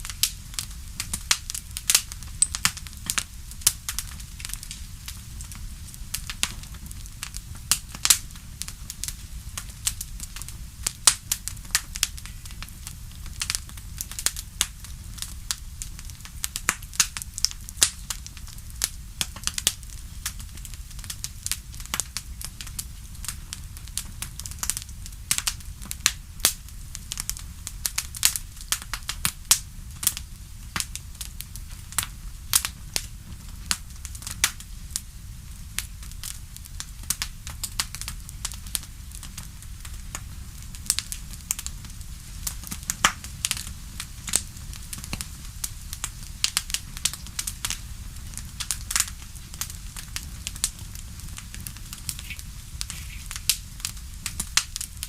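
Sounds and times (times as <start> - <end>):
fire crackling and popping: 0.0 - 55.0
low rumble of fire: 0.0 - 55.0.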